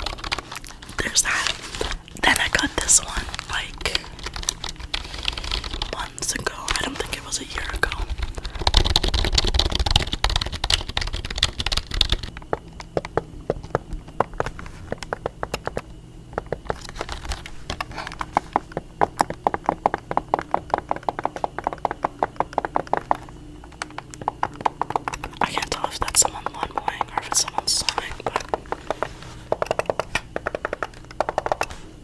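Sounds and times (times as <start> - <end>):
typing on a keyboard: 0.0 - 1.4, 2.2 - 31.8
rustling and handling noise: 0.0 - 32.0.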